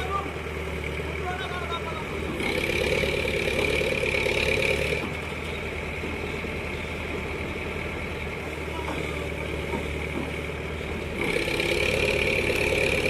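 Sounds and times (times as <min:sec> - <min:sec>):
crane diesel engine running: 0:00.0 - 0:13.0.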